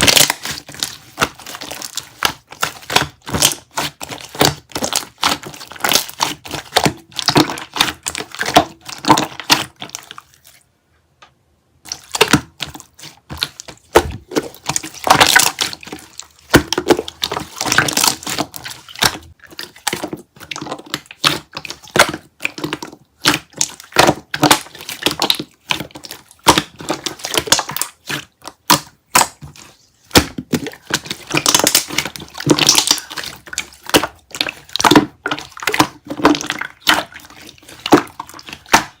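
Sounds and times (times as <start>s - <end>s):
slime squishing and popping: 0.0s - 10.2s, 11.8s - 39.0s.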